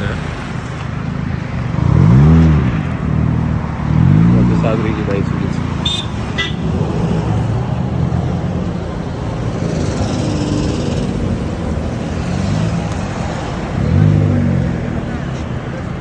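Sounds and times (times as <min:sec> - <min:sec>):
car engines rumbling: 0:00.0 - 0:16.0
road traffic: 0:00.0 - 0:16.0.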